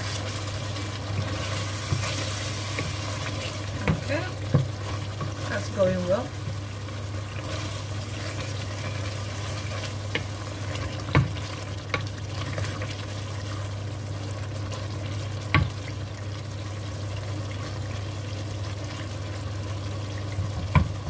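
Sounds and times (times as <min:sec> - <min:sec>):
stew sizzling: 0:00.0 - 0:21.0
wooden spoon stirring stew: 0:00.0 - 0:21.0.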